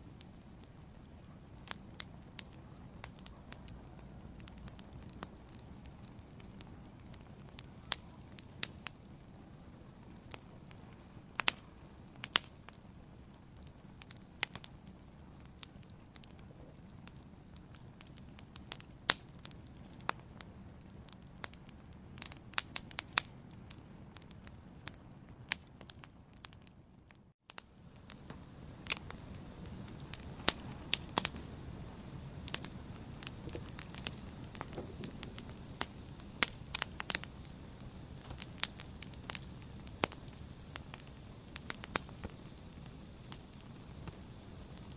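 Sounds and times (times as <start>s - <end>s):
low rumble of flame: 0.0s - 44.9s
wood fire crackling and popping: 0.0s - 44.9s.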